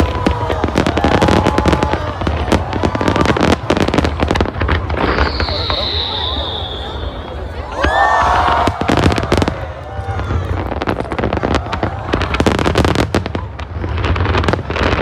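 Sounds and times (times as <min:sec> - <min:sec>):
fireworks bangs and crackles: 0:00.0 - 0:15.0
spectators' voices: 0:00.0 - 0:15.0.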